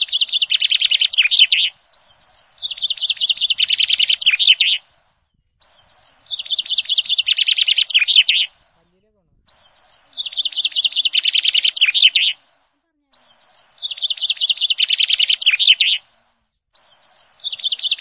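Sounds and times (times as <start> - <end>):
rapid high bird chirps: 0.0 - 18.0.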